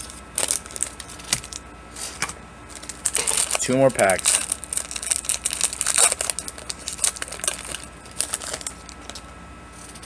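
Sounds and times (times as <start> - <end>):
wrapper crinkling and tearing: 0.4 - 1.6, 2.7 - 10.0.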